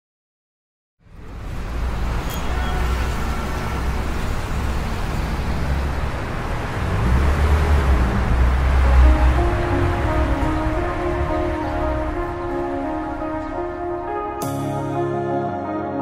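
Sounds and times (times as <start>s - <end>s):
passing road traffic: 1.0s - 15.4s.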